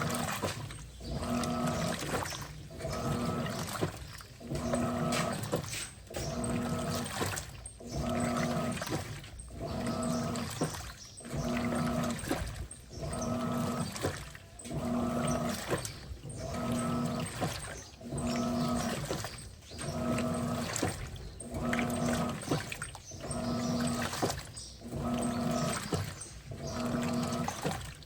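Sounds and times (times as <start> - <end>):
washing machine motor humming: 0.0 - 28.0
water sloshing: 0.0 - 28.0.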